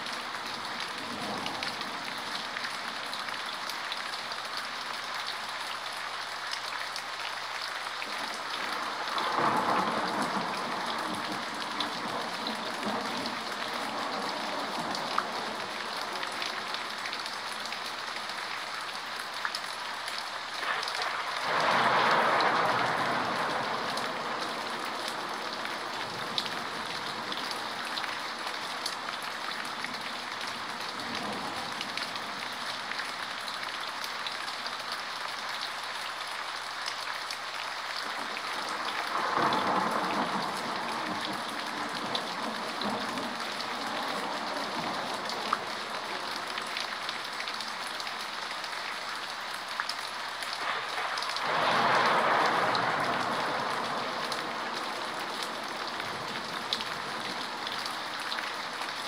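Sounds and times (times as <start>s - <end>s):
steady rain: 0.0s - 59.0s
rain drop ticks: 0.1s - 59.0s.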